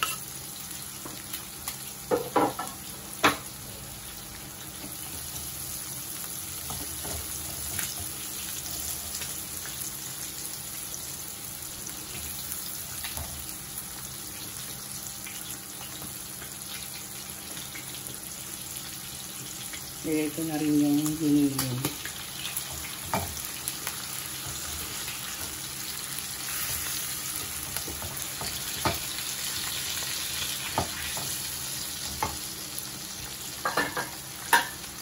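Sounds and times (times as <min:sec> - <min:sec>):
onion and garlic sizzling in oil: 0:00.0 - 0:35.0.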